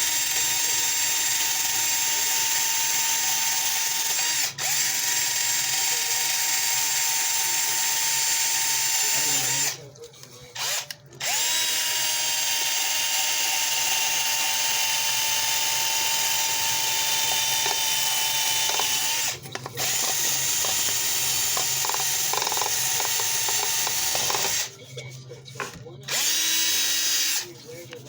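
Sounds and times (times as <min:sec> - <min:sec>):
drill grinding metal: 0:00.0 - 0:09.8, 0:10.6 - 0:24.8, 0:26.1 - 0:27.6.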